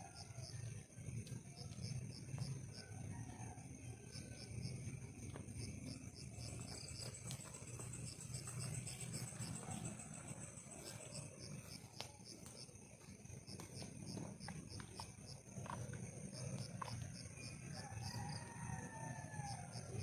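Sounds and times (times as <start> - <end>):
insects chirping: 0.0 - 20.0
steady high insect drone: 0.0 - 20.0.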